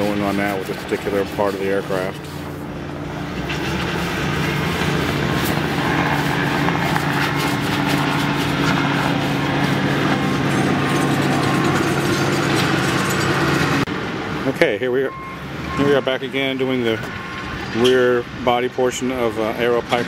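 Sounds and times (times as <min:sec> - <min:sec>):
heavy equipment engine humming: 0:00.0 - 0:18.4.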